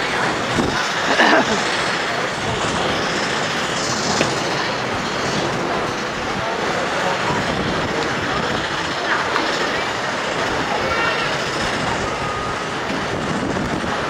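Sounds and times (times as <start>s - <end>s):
steam engine and paddle wheels: 0.0s - 14.0s.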